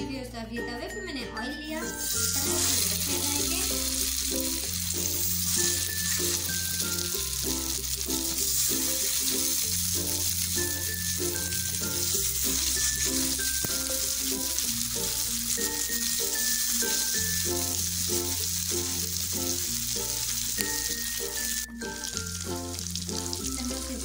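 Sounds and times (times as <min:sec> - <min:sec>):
background music: 0:00.0 - 0:24.0
kababs sizzling in oil: 0:01.8 - 0:24.0.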